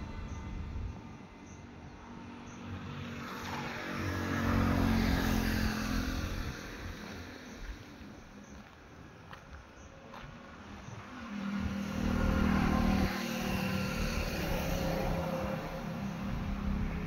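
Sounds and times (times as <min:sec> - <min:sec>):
motor vehicle passing by: 0:00.0 - 0:08.7, 0:10.1 - 0:17.0.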